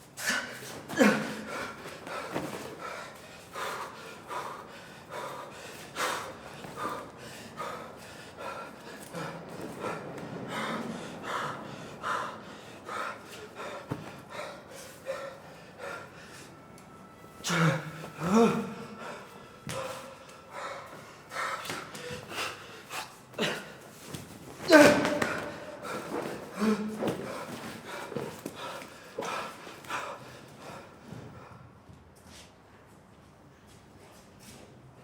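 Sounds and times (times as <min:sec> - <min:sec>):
person breathing hard: 0:00.1 - 0:31.9.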